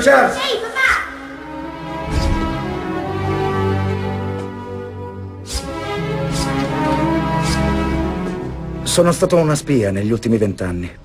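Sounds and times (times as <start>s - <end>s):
music of sustained low notes: 1.2s - 11.0s.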